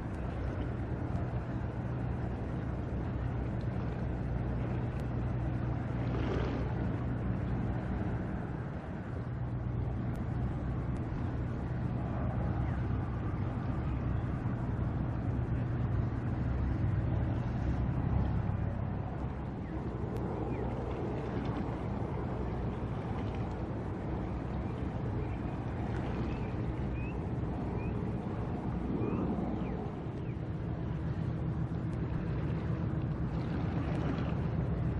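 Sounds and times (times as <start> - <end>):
broad noise wash: 0.0 - 34.9
low engine drone: 0.0 - 34.9
water noise: 0.0 - 34.9.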